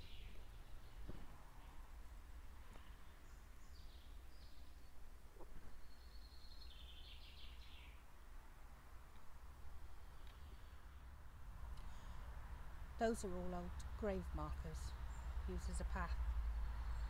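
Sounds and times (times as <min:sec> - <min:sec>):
faint birdsong: 0:00.0 - 0:12.3, 0:14.6 - 0:17.0.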